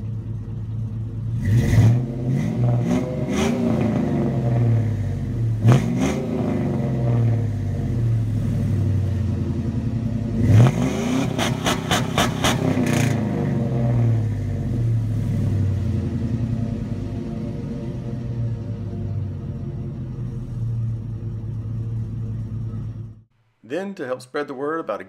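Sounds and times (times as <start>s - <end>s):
engine revving against limiter: 1.3s - 21.6s.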